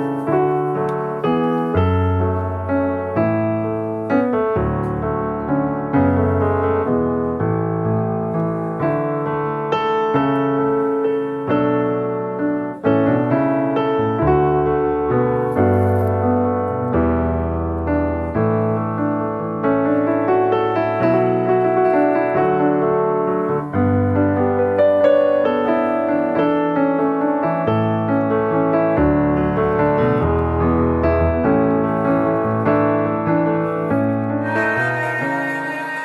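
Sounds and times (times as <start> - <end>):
piano chords: 0.0 - 36.0.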